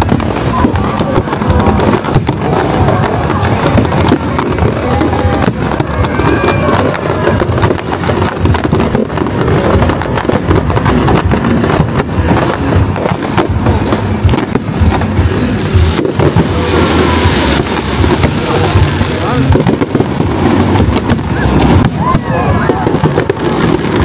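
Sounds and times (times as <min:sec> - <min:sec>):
fireworks bursting: 0:00.0 - 0:24.0
hissing crackle of fireworks: 0:00.0 - 0:24.0.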